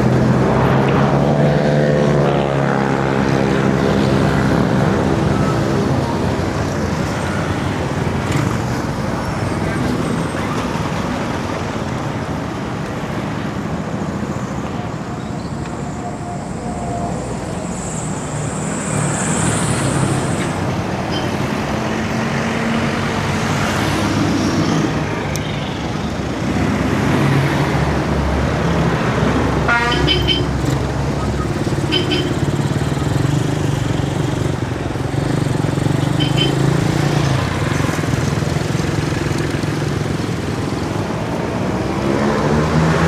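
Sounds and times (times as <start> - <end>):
road traffic roar: 0.0 - 43.0.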